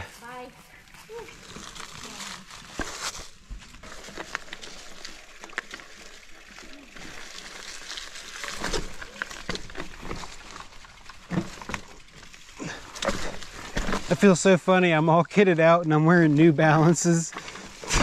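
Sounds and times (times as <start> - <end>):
dry leaves and twigs crackling: 0.0 - 15.0, 15.9 - 18.0.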